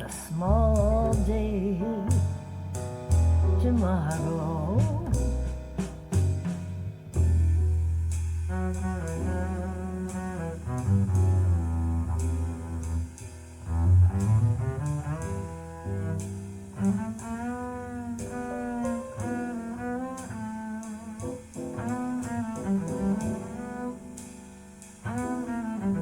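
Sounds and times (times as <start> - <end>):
double bass notes: 0.0 - 26.0.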